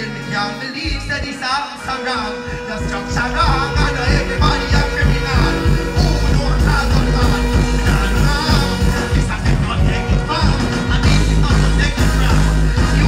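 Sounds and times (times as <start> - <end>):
dancehall music through sound system: 0.0 - 13.0
man deejaying over beat: 0.0 - 13.0
heavy bass beat: 2.2 - 13.0.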